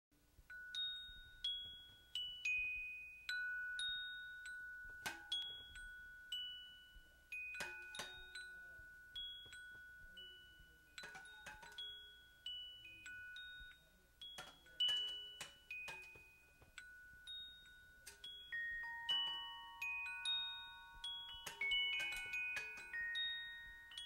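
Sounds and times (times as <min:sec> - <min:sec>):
sparse bell-like music notes: 0:03.2 - 0:24.0.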